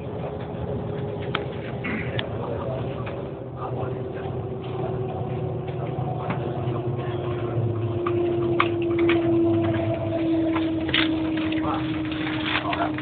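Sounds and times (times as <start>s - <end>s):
train cabin hum and whine: 0.0s - 13.0s.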